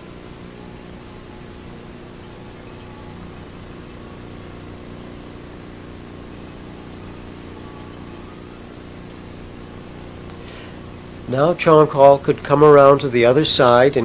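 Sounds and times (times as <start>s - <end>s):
low multi-tone hum: 0.0s - 14.0s
steady hiss: 0.0s - 14.0s.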